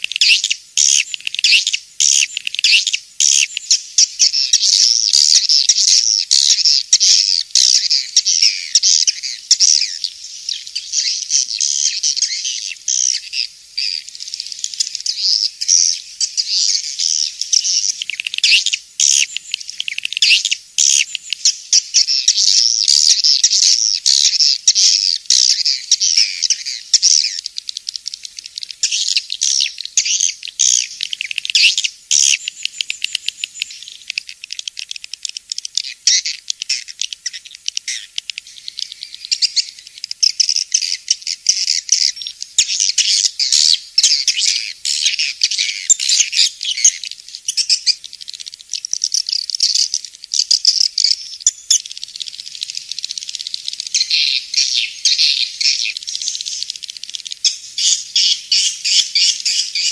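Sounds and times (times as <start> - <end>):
high-pitched bird chirping: 0.0 - 59.9.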